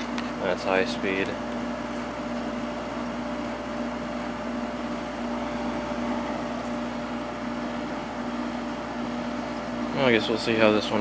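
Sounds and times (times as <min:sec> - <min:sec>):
air conditioner humming: 0:00.0 - 0:11.0
fan rush: 0:00.0 - 0:11.0.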